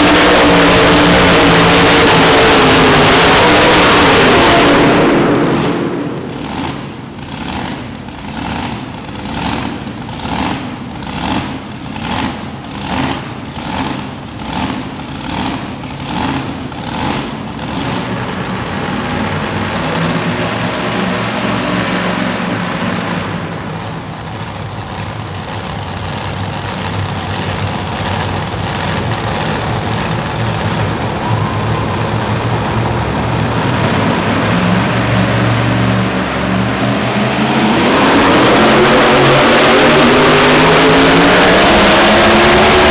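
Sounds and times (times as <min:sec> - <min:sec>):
pulling truck engine running: 0:00.0 - 0:42.9.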